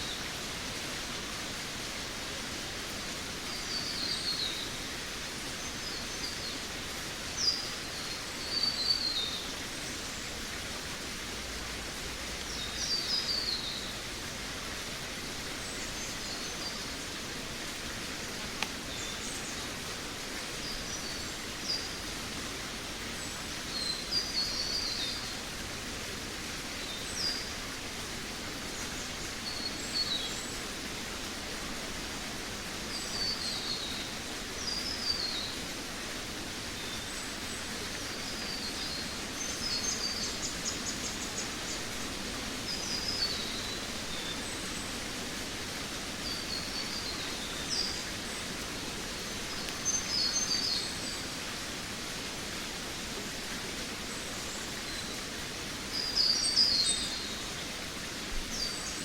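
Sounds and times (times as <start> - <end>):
forest ambience hiss: 0.0 - 59.0.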